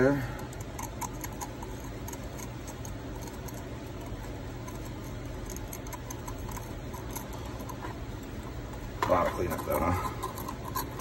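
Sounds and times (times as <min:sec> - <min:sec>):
metal pick scratching metal: 0:00.0 - 0:11.0
steady low hum: 0:00.0 - 0:11.0.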